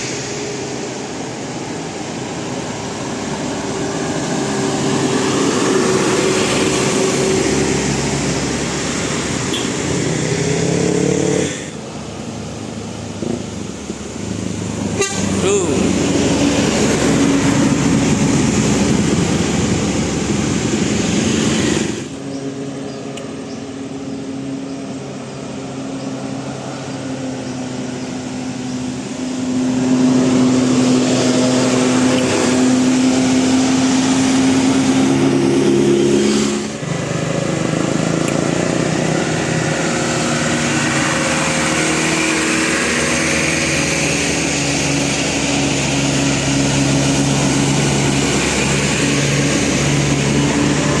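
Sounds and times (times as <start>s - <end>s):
bus engines droning: 0.0s - 51.0s.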